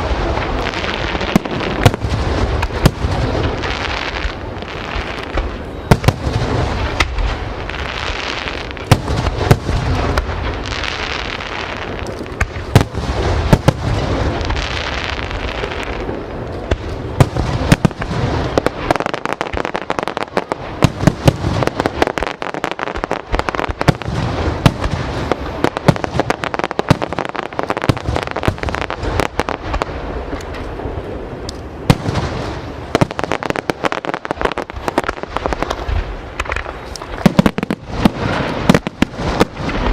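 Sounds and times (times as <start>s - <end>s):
fireworks bangs and cracks: 0.0s - 39.9s
fireworks crackle: 0.0s - 39.9s.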